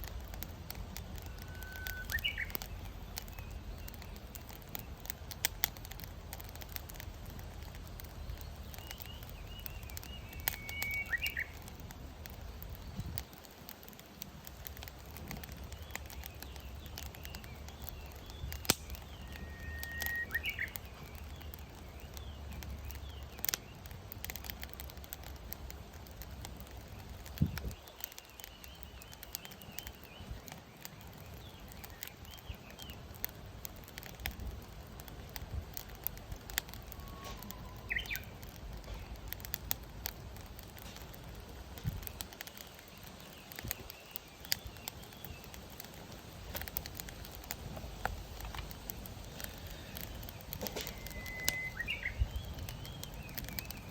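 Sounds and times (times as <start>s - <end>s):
fire crackling and popping: 0.0s - 53.9s
birds chirping: 0.2s - 25.4s, 26.6s - 33.4s, 35.8s - 39.2s, 40.5s - 53.9s.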